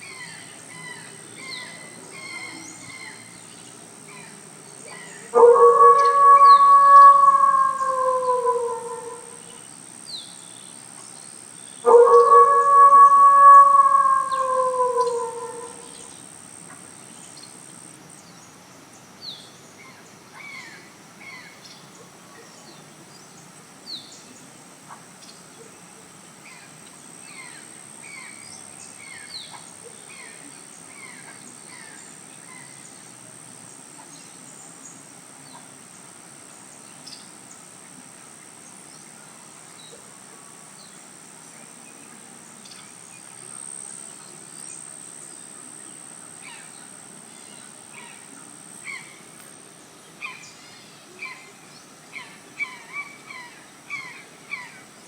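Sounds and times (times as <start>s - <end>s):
high-pitched insect trill: 0.0s - 24.3s, 26.3s - 55.0s
soft background hiss: 0.0s - 55.0s.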